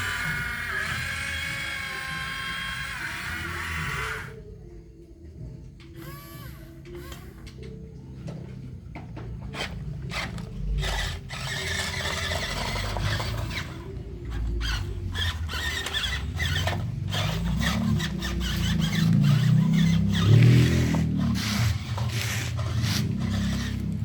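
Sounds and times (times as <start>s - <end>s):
small electric motors whining: 0.0s - 4.5s, 6.0s - 7.9s, 9.5s - 24.0s.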